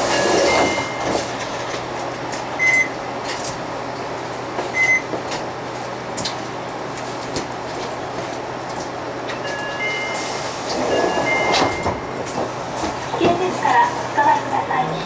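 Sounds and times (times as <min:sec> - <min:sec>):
bus interior running noise: 0:00.0 - 0:15.0.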